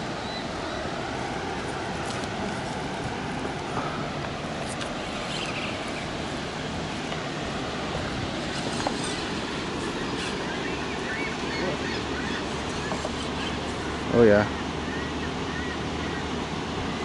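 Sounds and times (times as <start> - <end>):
water rushing over spillway: 0.0 - 17.0.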